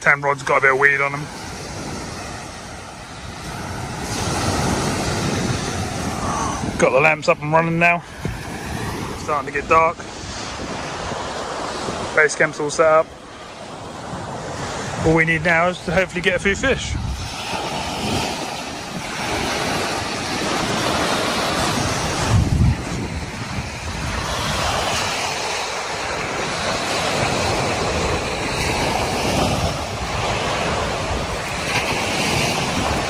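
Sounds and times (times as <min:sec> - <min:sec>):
surf washing onto beach: 0:00.0 - 0:33.0
wind on microphone: 0:00.3 - 0:33.0.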